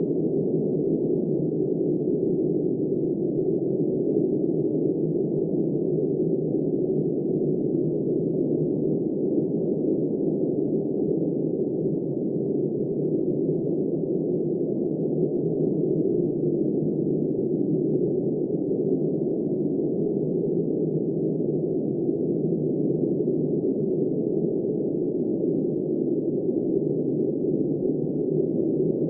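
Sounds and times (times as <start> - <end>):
muffled wind: 0.0 - 29.0.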